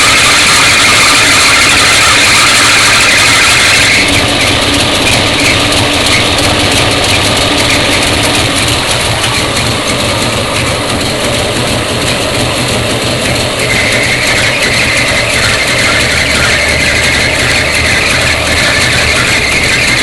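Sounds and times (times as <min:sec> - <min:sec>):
car engine idling: 0:00.0 - 0:20.0
high-pitched squeal: 0:00.0 - 0:20.0.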